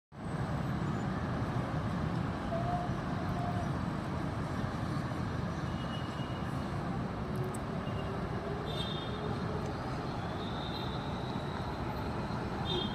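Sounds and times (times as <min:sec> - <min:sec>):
road traffic rumble: 0:00.1 - 0:12.9.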